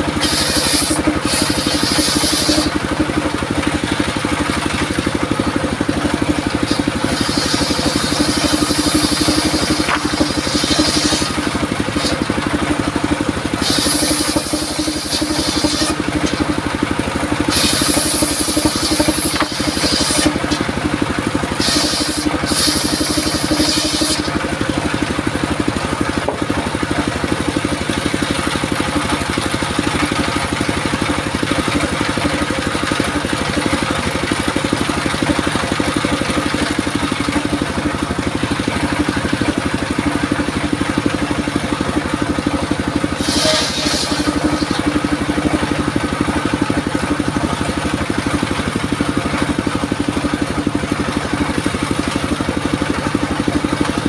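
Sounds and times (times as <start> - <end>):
diesel engine running: 0.0 - 54.0
saw blade cutting log: 0.0 - 54.0.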